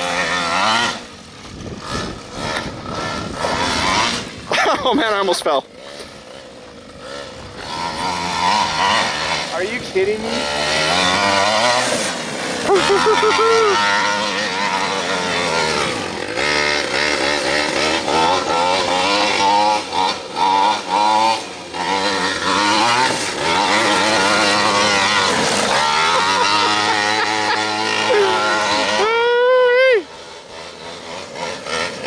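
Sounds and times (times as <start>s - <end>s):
small two-stroke engine revving: 0.0s - 32.0s.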